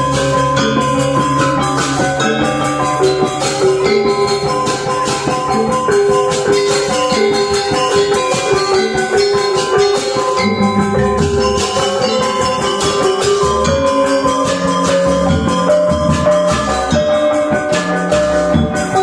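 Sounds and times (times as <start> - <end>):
metallophone and gong-chime notes: 0.0 - 19.0
small cymbals clashing: 0.0 - 19.0.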